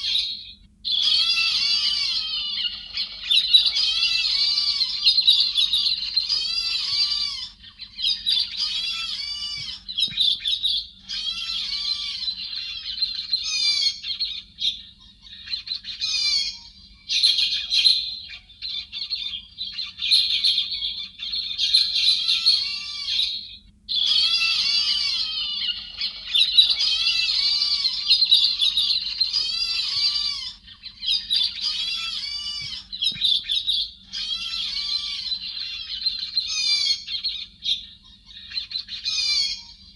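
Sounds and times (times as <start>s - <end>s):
chattering bird calls: 0.0s - 39.9s
faint low hum: 0.0s - 39.9s.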